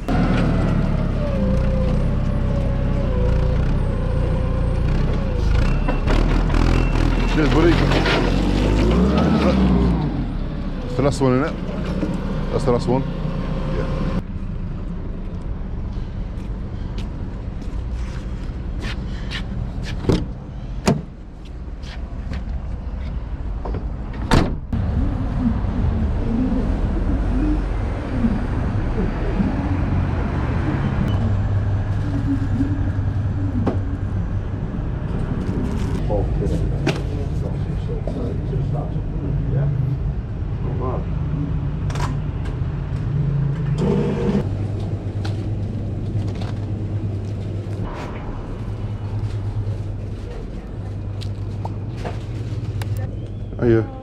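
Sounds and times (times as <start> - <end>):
engine running: 0.0 - 18.8, 24.8 - 40.8, 41.8 - 53.3.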